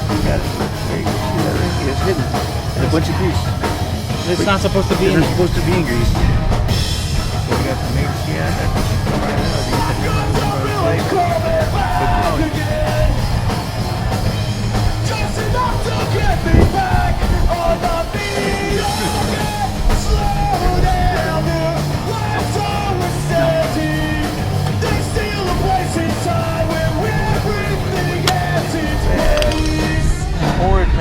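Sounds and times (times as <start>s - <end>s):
bass guitar: 0.0s - 31.0s
drums: 0.0s - 31.0s
guitar: 0.0s - 31.0s
punk-style shouted singing: 0.0s - 31.0s.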